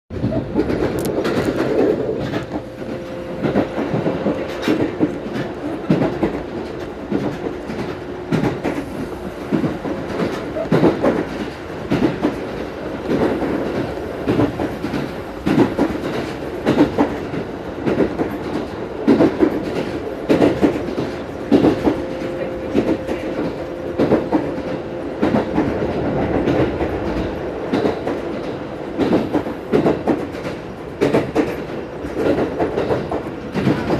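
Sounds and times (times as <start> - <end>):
train running hum: 0.1 - 33.9
train wheels clacking over rail joints: 0.2 - 33.9.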